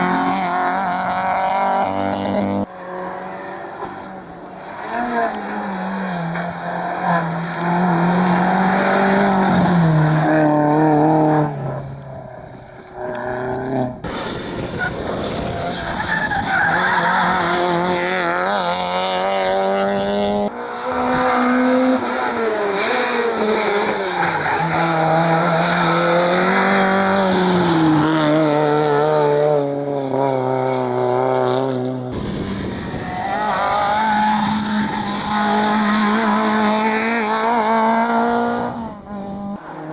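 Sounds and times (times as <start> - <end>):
rally car engines revving hard: 0.0 - 39.9.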